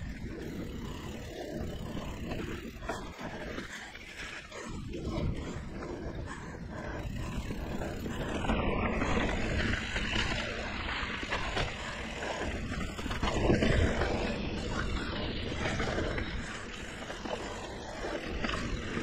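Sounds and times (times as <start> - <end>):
bike tyres on dirt trail: 0.0 - 19.0
wind on microphone: 0.0 - 19.0.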